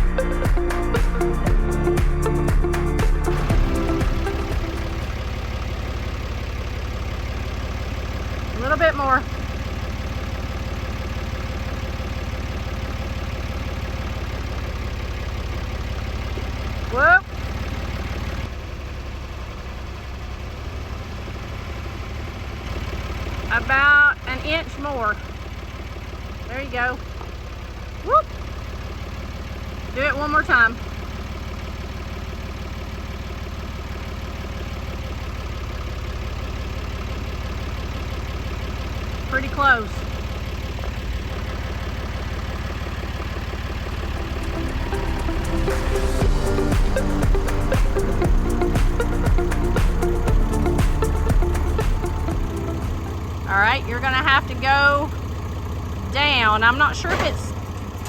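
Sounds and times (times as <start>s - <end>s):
machine engine idling: 0.0s - 58.0s.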